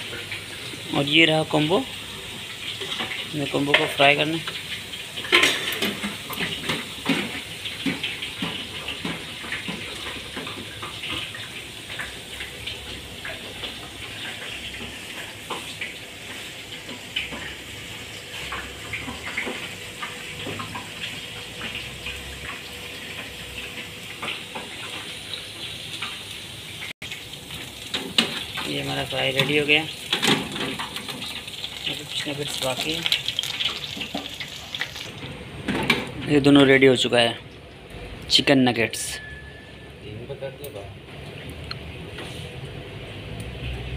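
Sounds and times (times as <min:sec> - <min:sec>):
oil sizzling in deep fryer: 0:00.0 - 0:43.9.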